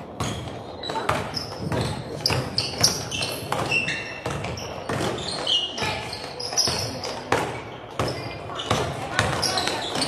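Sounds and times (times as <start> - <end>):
basketball bouncing on gym floor: 0.0 - 10.0
sneaker squeaks: 0.0 - 10.0.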